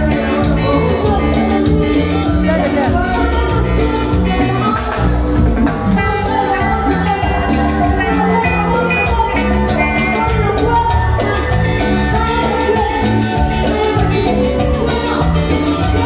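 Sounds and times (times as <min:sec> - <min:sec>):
cumbia band music: 0:00.0 - 0:16.0.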